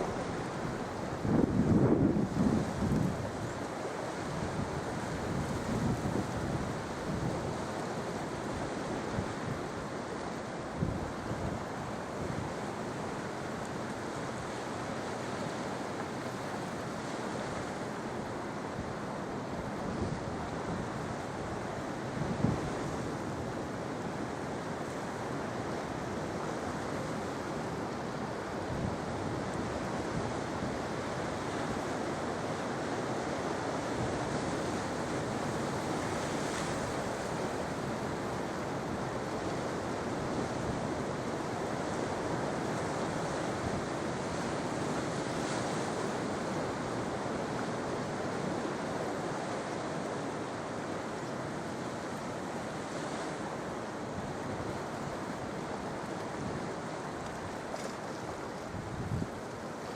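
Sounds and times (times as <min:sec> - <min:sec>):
sea surf washing ashore: 0:00.0 - 0:59.9.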